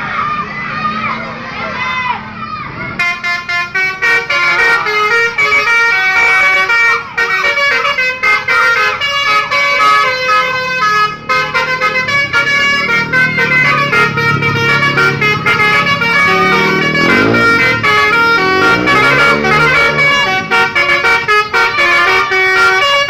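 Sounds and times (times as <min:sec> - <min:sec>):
bus horn playing a tune: 0:03.0 - 0:23.0.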